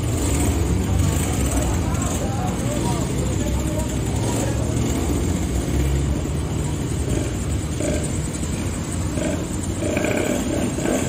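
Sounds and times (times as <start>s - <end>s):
small two-stroke engines running: 0.0s - 11.0s.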